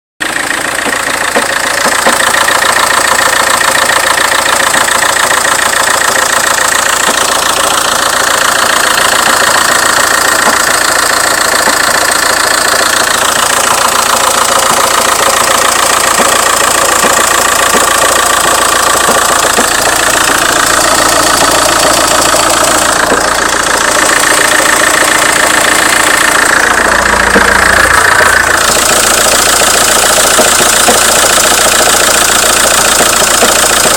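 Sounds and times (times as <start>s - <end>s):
diesel engine idling: 0.2s - 33.9s
steady knocking from engine: 0.2s - 33.9s.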